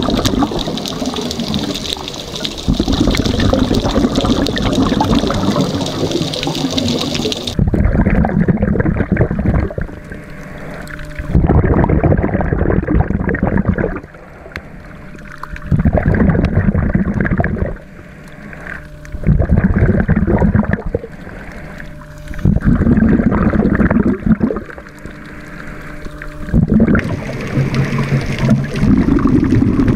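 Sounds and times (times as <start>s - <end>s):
exhaled bubbles rushing: 0.0s - 14.2s, 15.0s - 29.9s
faint steady hum: 0.0s - 29.9s.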